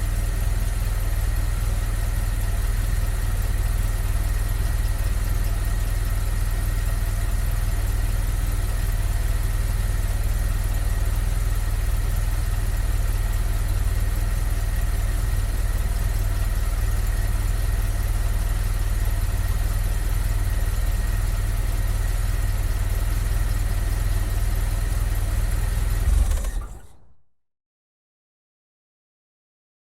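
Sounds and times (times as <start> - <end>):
car engine idling: 0.0 - 27.2.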